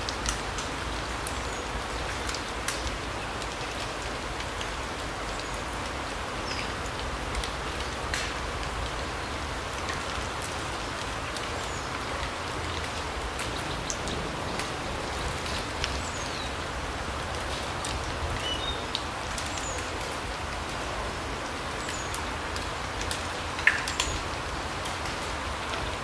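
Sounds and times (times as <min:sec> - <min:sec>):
rain patter in forest: 0:00.0 - 0:26.0
water drips: 0:00.0 - 0:26.0.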